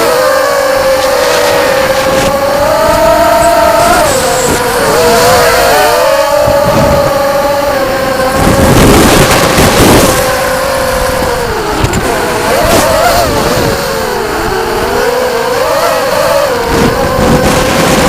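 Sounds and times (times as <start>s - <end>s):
loud rush of noise: 0.0s - 18.0s
quadcopter motors whining: 0.0s - 18.0s.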